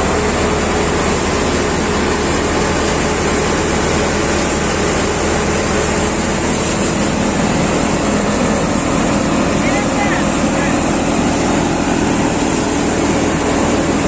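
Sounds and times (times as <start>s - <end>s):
thresher machine droning: 0.0s - 14.0s.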